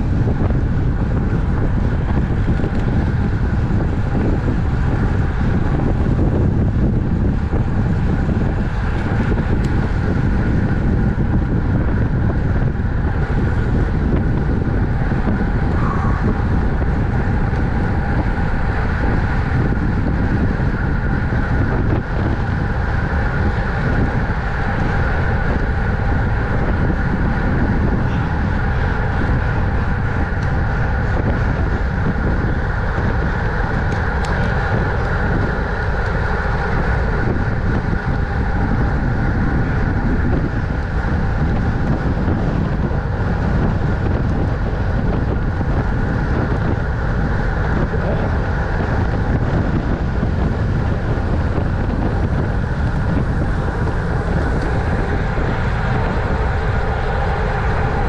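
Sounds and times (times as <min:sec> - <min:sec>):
faint steady tones from bicycle: 0:00.0 - 0:58.0
wind rushing over microphone: 0:00.0 - 0:58.0.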